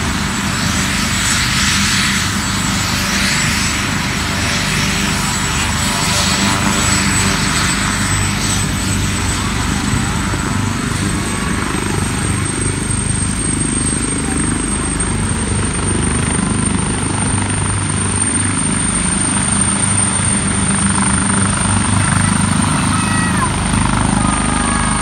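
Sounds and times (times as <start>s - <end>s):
helicopter rotor beat: 0.0s - 25.0s
high turbine whine: 0.0s - 25.0s.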